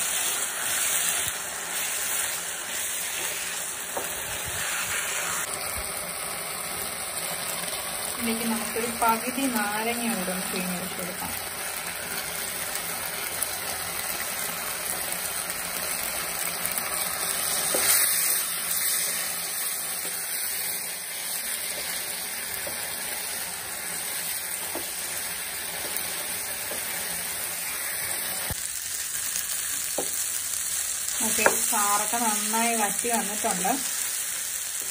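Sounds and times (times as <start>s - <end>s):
meat sizzling in a frying pan: 0.0s - 34.9s.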